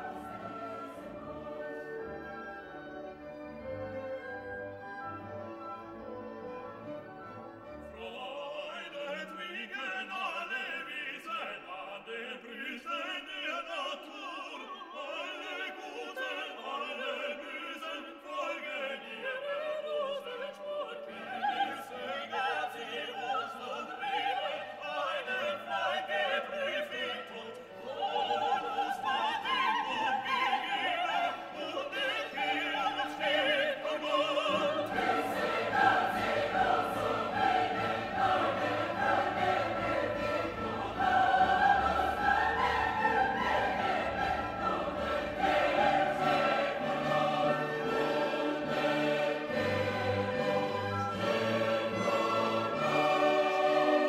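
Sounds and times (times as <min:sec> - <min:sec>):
classical singing with orchestra: 0:00.0 - 0:54.0.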